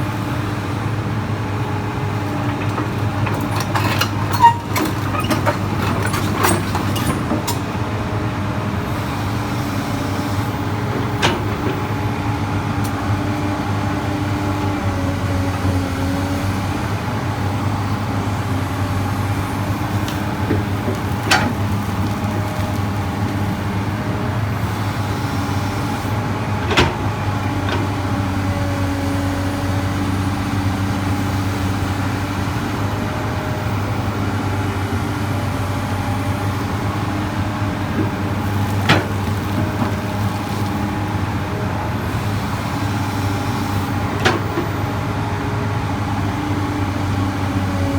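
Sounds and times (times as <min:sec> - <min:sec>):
excavator diesel engine running: 0:00.0 - 0:47.9
hydraulics whining: 0:01.6 - 0:47.9.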